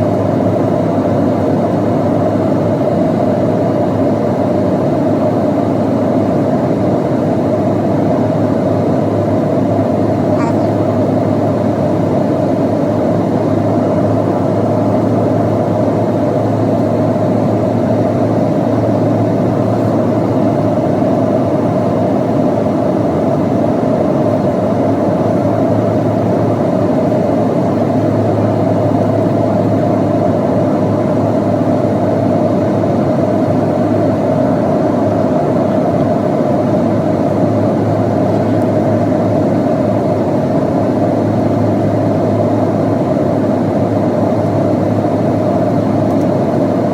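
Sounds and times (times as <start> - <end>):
airplane cabin noise: 0.0 - 46.9.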